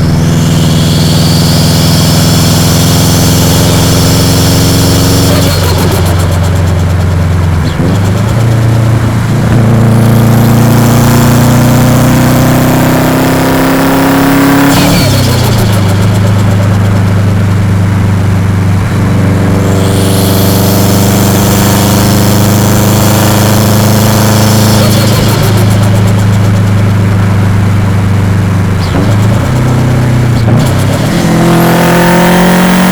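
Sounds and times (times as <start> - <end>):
car engine running under load: 0.0 - 32.9.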